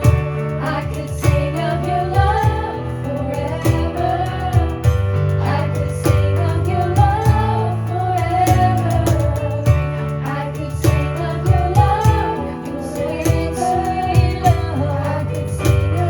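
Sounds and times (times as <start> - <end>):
drum beat: 0.0 - 14.8
bass notes: 0.0 - 16.0
guitar: 0.0 - 16.0
person singing: 0.0 - 16.0.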